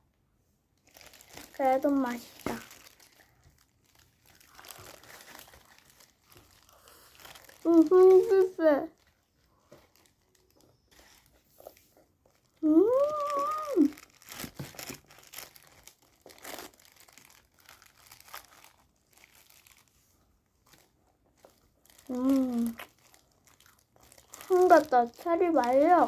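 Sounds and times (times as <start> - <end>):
wrapping crinkling and rustling: 0.7 - 26.0
faint crunching of food: 0.8 - 26.0.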